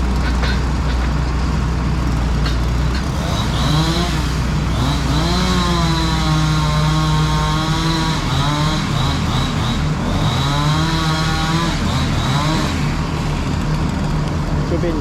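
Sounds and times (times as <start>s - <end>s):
low engine hum: 0.0s - 15.0s
chainsaw revving: 2.0s - 15.0s.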